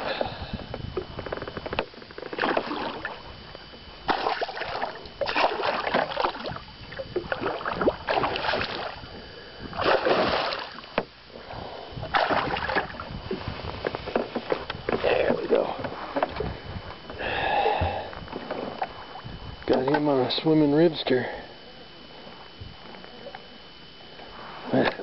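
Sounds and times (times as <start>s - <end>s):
water splashing beside boat: 0.0s - 20.1s.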